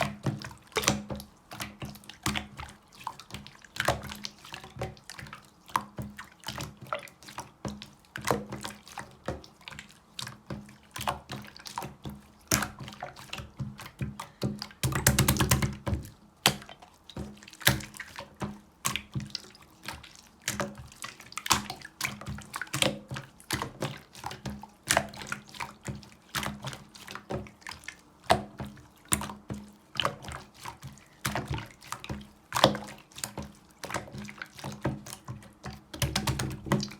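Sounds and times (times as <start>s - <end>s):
slime squelching by hand: 0.0s - 36.9s.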